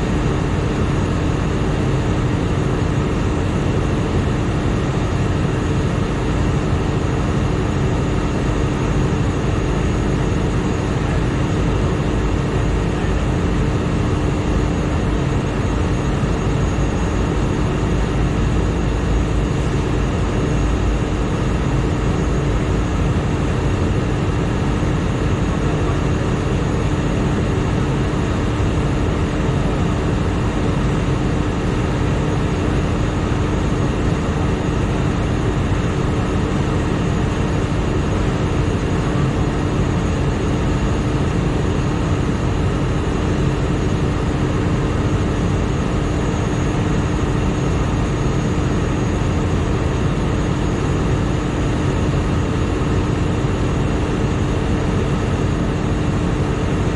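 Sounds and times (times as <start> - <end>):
machine hum with steady tone: 0.0 - 56.9.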